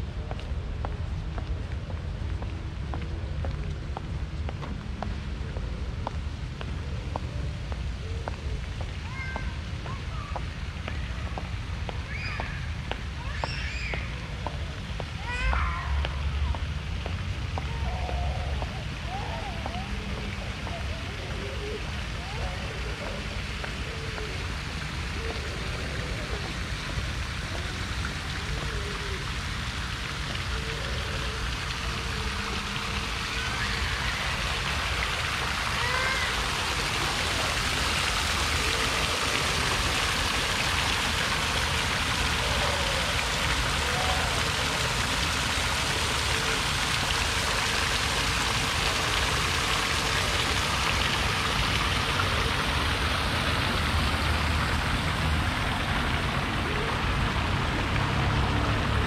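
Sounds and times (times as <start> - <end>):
steady rushing outdoor noise: 0.0 - 59.0.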